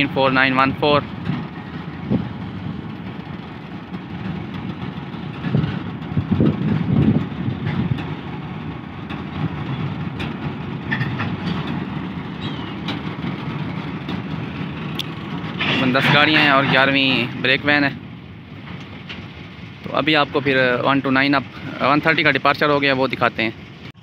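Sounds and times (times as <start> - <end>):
diesel locomotive engine running: 0.0 - 24.0
freight wagons rolling on rails: 0.0 - 24.0
wheels clicking over rail joints: 0.0 - 24.0.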